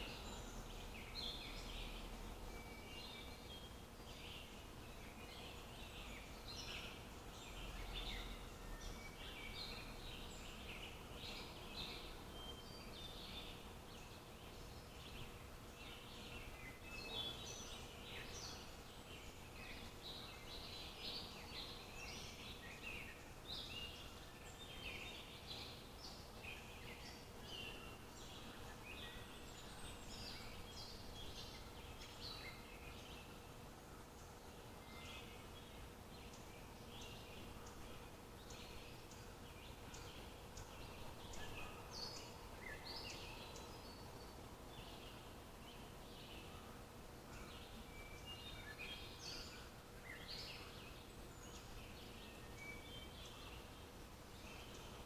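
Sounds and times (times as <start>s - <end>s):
faint outdoor background noise: 0.0s - 55.0s
wild birds chirping: 0.0s - 55.0s.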